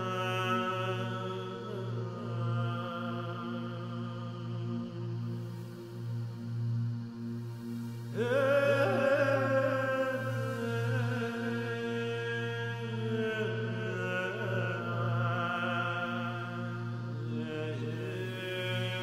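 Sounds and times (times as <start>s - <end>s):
chant-like melody: 0.0s - 19.0s
low steady drone: 0.0s - 19.0s.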